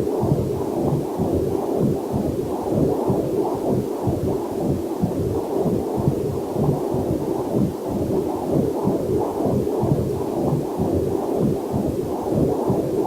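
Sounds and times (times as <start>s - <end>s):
whooshing heartbeat pulse: 0.0s - 13.0s.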